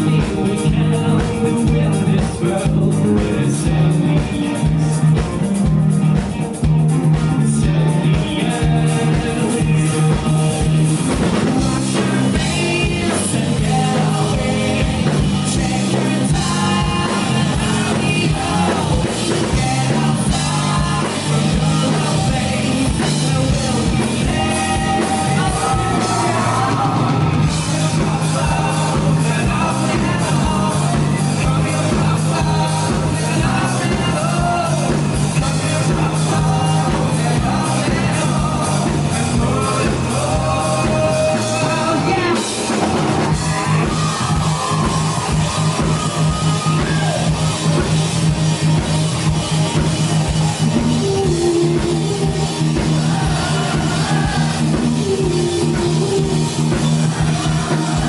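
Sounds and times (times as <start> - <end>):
person singing lead vocals: 0.0 - 48.8, 49.7 - 58.0
bass guitar low notes: 0.0 - 58.0
drum kit beat: 0.0 - 58.0
electric guitar: 0.0 - 58.0.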